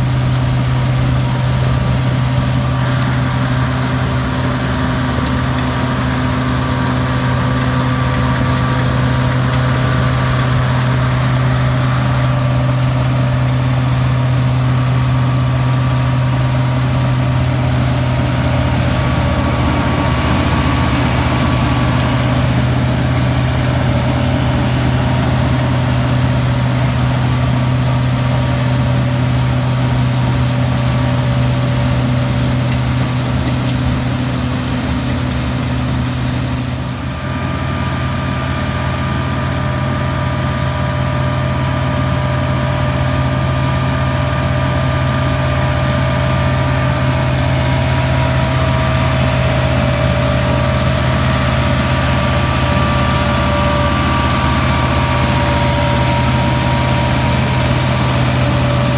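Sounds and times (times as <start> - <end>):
straw chopper running: 0.0 - 58.9
tractor diesel engine: 0.0 - 58.9.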